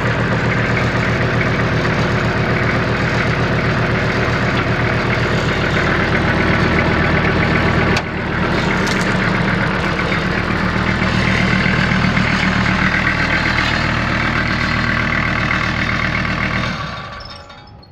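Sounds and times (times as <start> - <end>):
tractor diesel engine idling: 0.0 - 17.9.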